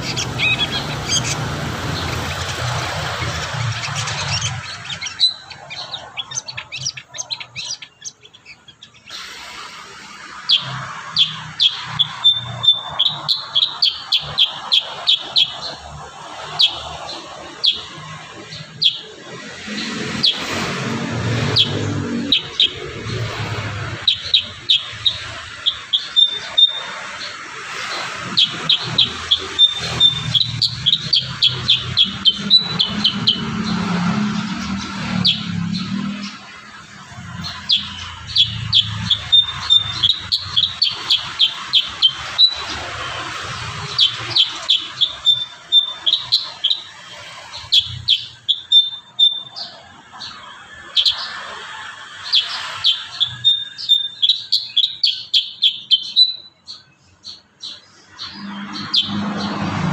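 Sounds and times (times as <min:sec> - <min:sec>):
songbird chirping and trilling: 0:00.0 - 0:59.9.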